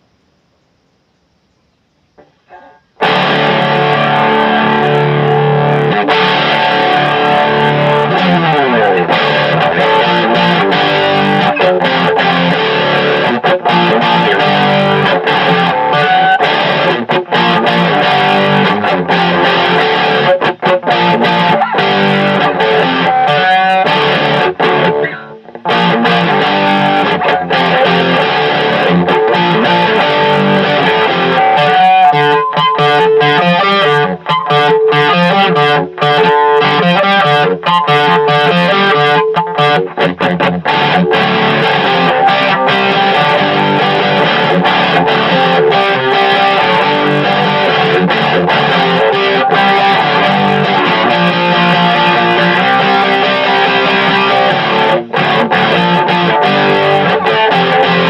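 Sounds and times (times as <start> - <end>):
electric guitar playing chords: 2.5 - 58.0.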